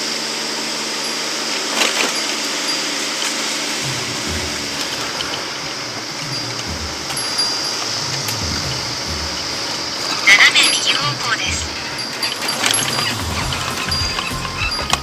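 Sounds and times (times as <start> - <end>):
tyres rumbling over bumps: 1.6 - 15.0.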